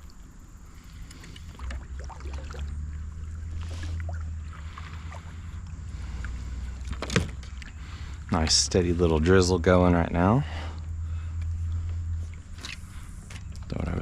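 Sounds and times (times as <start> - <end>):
low rumble: 0.0 - 14.0
water sloshing around wading legs: 0.0 - 14.0.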